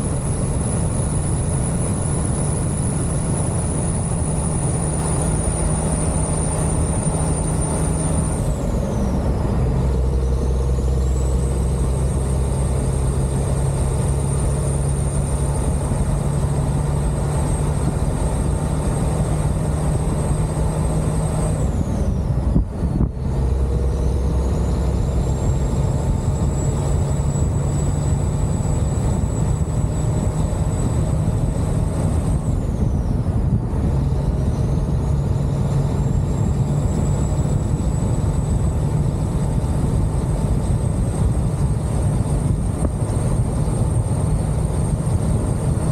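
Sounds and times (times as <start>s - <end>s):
high engine whine: 0.0s - 45.9s
truck diesel engine running: 0.0s - 45.9s.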